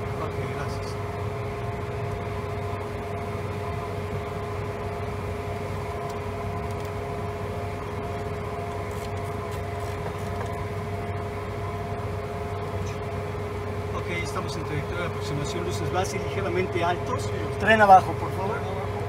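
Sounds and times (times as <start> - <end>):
airflow in jet cockpit: 0.0 - 19.0
jet engine hum: 0.0 - 19.0
thin steady whine: 0.0 - 19.0.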